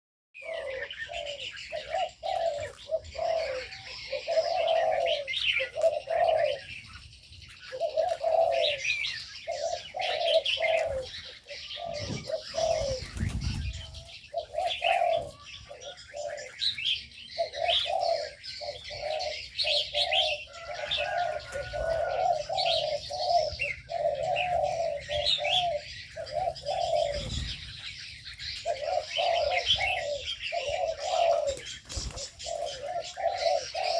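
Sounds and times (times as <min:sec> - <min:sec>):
doves cooing: 0:00.4 - 0:33.9
small birds chirping: 0:00.4 - 0:33.9.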